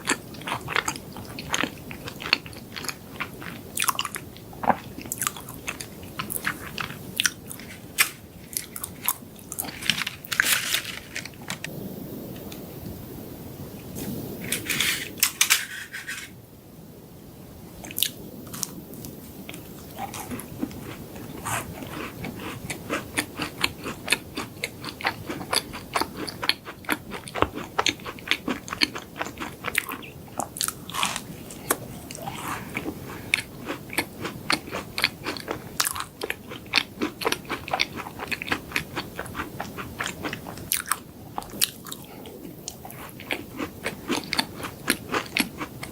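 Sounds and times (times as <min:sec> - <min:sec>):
crunchy chewing: 0:00.0 - 0:11.8, 0:17.8 - 0:45.9.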